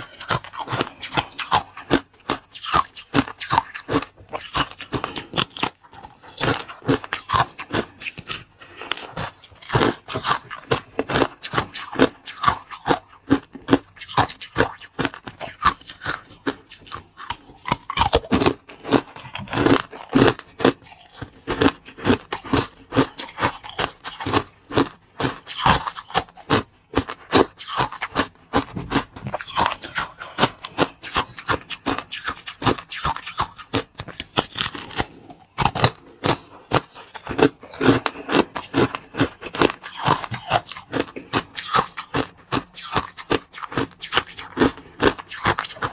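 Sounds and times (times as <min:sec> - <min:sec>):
food crunching being chewed: 0:00.0 - 0:45.9.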